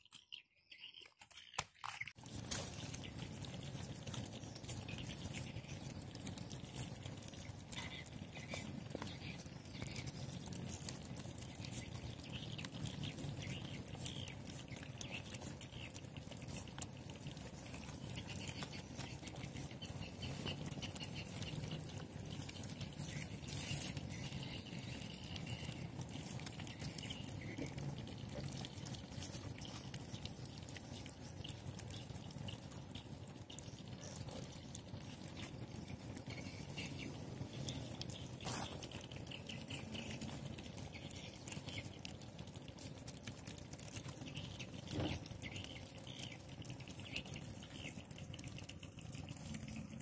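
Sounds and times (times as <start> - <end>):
puppies eating wet food: 0.0 - 50.0.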